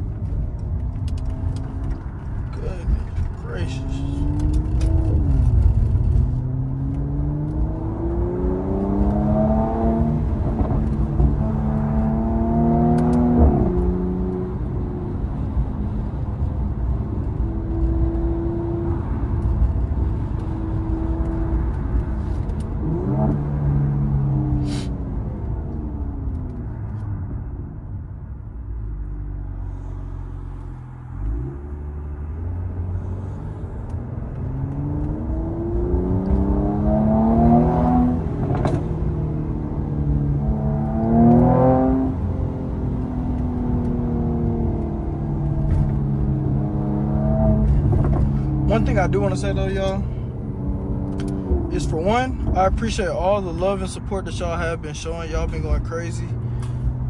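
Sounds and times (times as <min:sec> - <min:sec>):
car engine accelerating: 0:00.0 - 0:27.4, 0:28.8 - 0:57.0.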